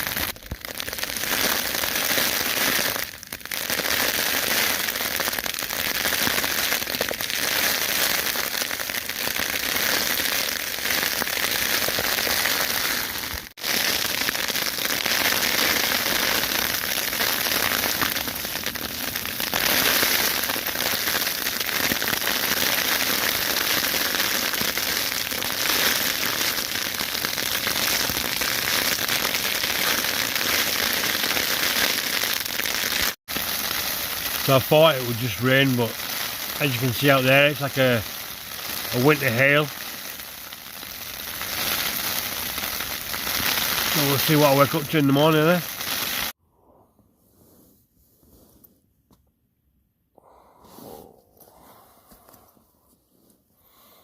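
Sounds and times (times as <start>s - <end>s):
hail and rain pattering: 0.0s - 46.3s.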